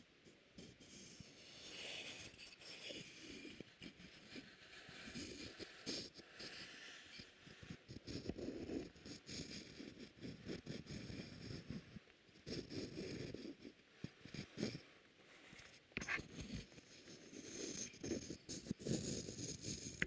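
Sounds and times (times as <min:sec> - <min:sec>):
soft scratching and rustling: 0:00.7 - 0:20.0.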